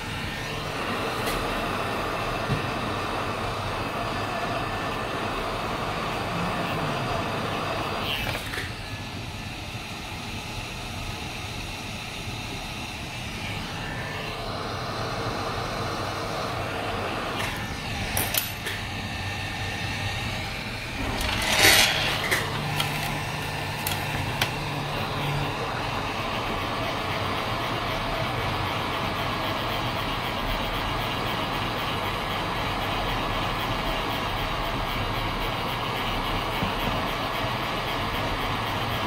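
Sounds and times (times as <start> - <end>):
hot-air rework station hissing: 0.0 - 39.0.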